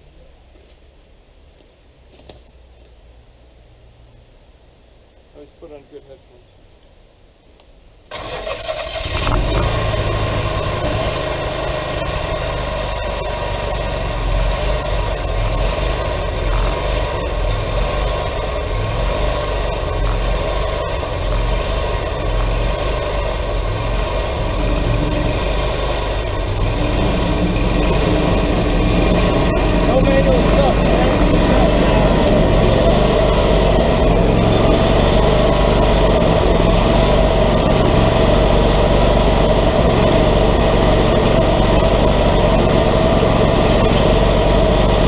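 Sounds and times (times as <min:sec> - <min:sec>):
added engine tone: 0:08.1 - 0:45.0
sawmill engine running: 0:08.1 - 0:45.0.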